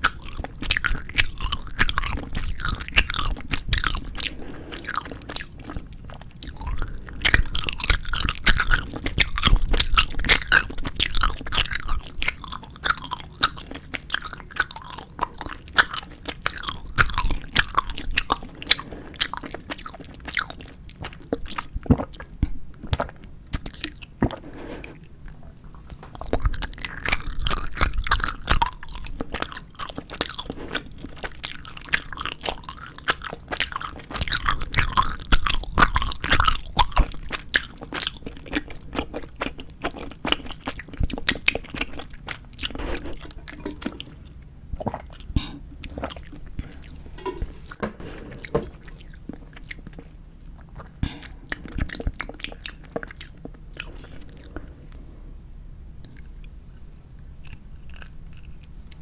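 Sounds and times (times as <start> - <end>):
chewing gummy candy: 0.0 - 55.1, 56.0 - 59.0.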